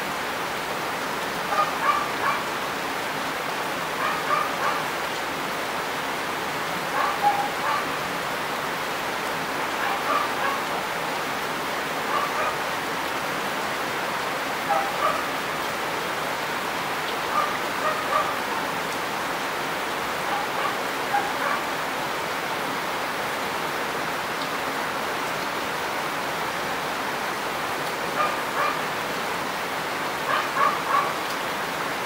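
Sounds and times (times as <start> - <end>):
heavy rain: 0.0 - 32.0.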